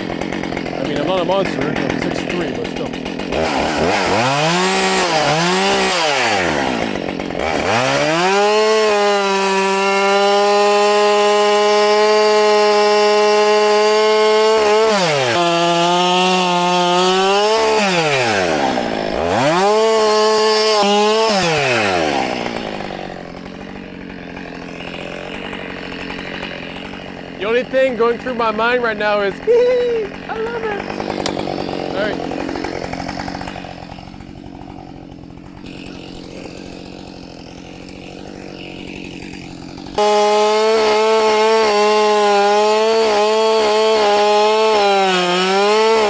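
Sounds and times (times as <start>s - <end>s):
chainsaw revving and cutting wood: 0.0s - 46.0s.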